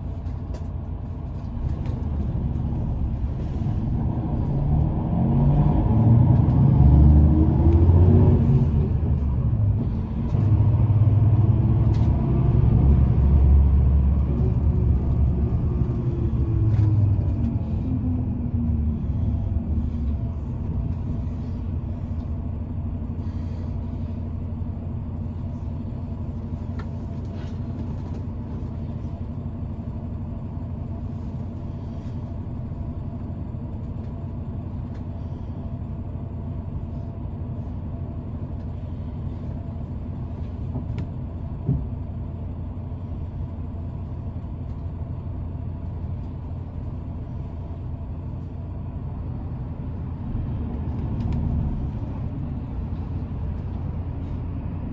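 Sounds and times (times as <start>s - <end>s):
low rumble: 0.0s - 54.9s.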